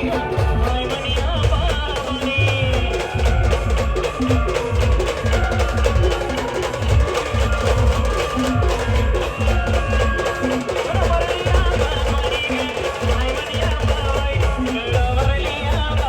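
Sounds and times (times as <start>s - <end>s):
band music: 0.0s - 16.0s
heavy bass drum beats: 0.0s - 16.0s.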